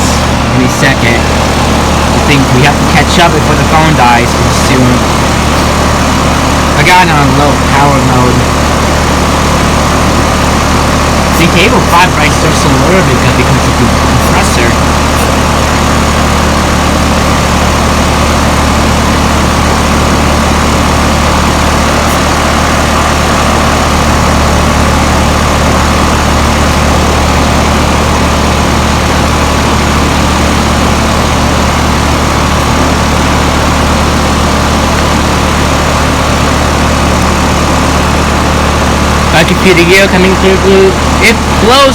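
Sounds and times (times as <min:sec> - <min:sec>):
air conditioner unit humming: 0:00.0 - 0:41.9.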